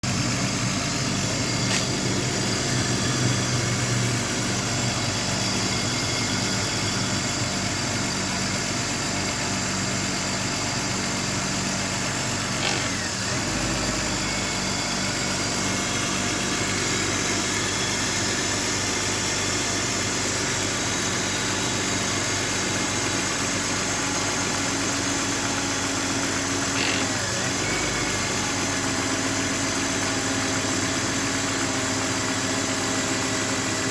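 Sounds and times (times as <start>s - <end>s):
car engine idling roughly: 0.0s - 33.9s.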